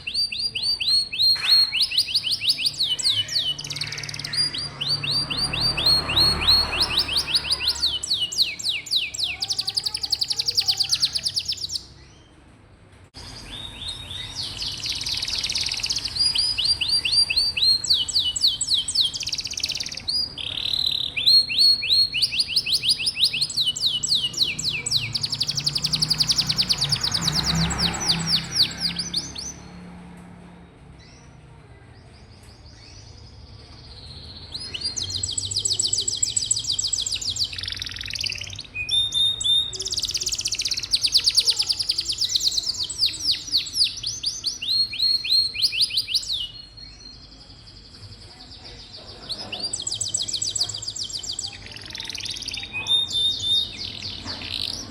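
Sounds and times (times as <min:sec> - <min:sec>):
canary singing trills: 0:00.0 - 0:12.3, 0:13.2 - 0:30.1, 0:32.0 - 0:54.9.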